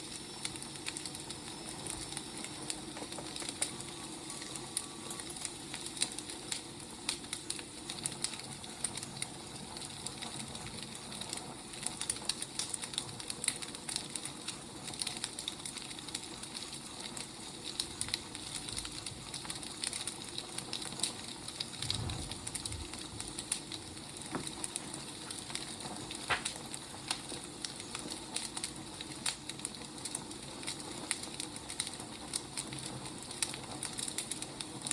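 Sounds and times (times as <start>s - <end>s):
firewood crackling: 0.0s - 34.9s.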